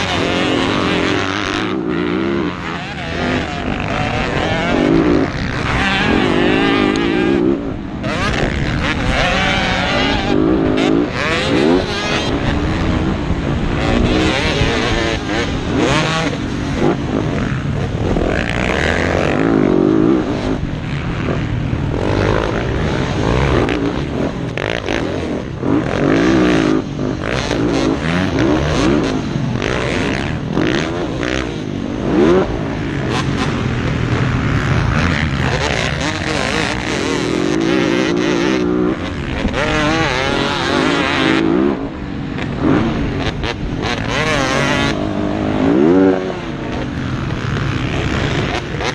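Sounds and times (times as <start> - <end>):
motocross bike engines revving: 0.0 - 48.9.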